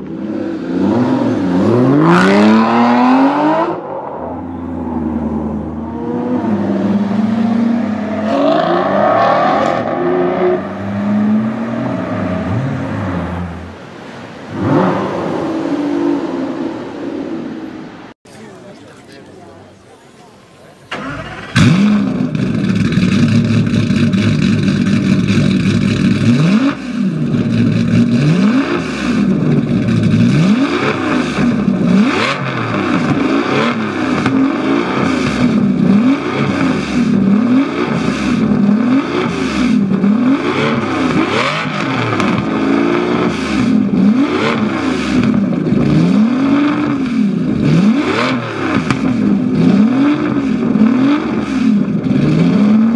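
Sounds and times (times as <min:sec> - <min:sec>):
car engine starting and revving: 0:00.0 - 0:17.8, 0:20.8 - 0:52.9.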